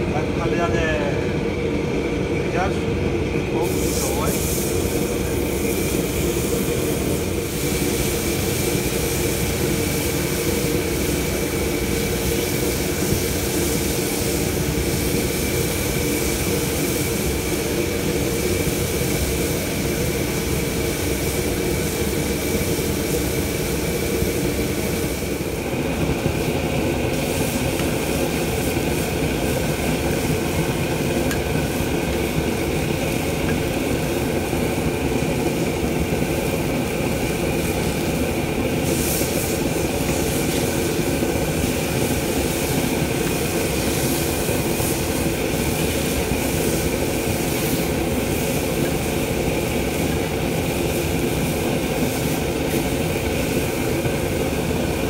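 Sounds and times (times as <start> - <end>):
kitchen range and ventilation roar: 0.0 - 55.0.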